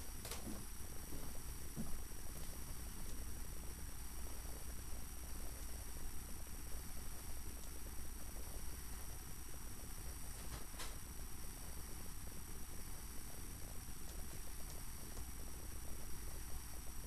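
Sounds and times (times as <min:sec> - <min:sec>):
faint high-pitched whine: 0:00.0 - 0:17.0
low electrical hum: 0:00.0 - 0:17.0.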